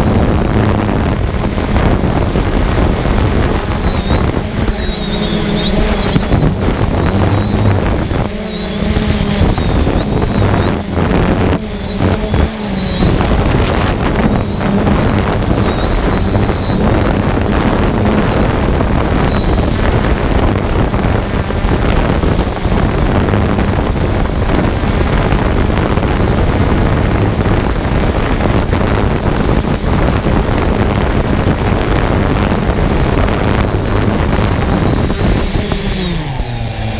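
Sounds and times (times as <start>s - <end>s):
drone motors high whine: 0.0s - 36.9s
wind rushing on microphone: 0.0s - 36.9s.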